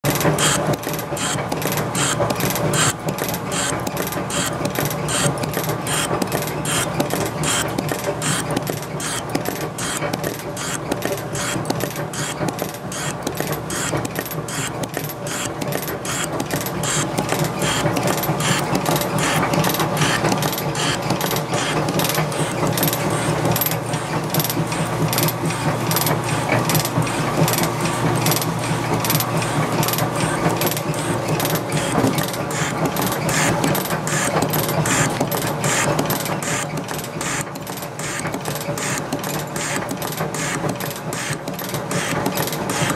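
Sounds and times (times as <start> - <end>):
motor and gearing hum: 0.0 - 42.9.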